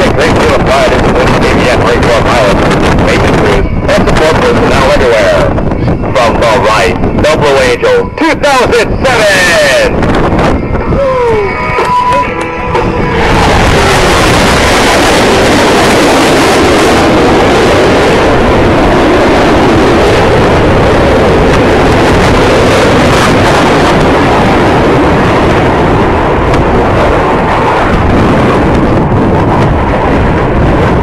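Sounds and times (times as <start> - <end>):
jet fighters roaring past: 0.0 - 31.0.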